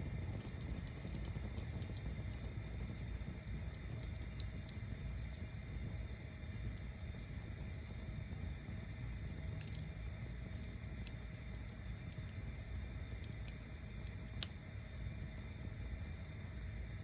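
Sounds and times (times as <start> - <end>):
bonfire rumbling: 0.0 - 17.0
burning wood crackling: 0.0 - 17.0.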